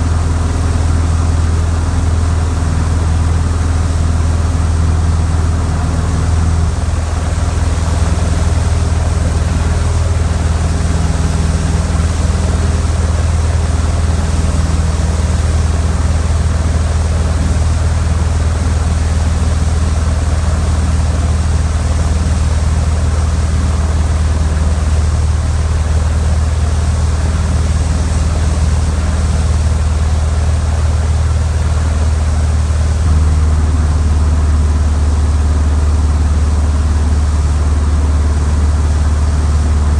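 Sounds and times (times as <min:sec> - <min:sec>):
light airplane engine droning: 0:00.0 - 0:39.9.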